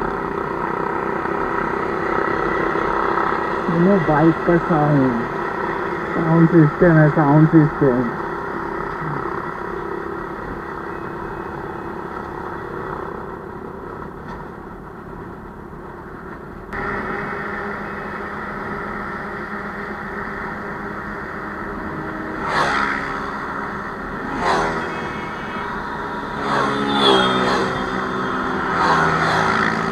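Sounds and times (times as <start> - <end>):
vehicle engine idling: 0.0 - 26.4.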